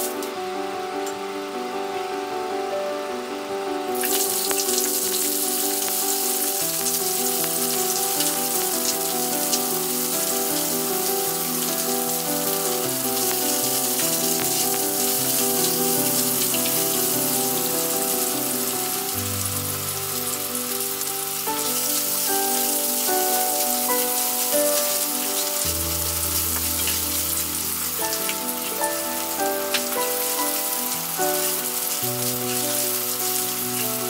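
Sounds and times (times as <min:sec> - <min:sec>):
sausage and onion sizzling: 0:03.9 - 0:34.0.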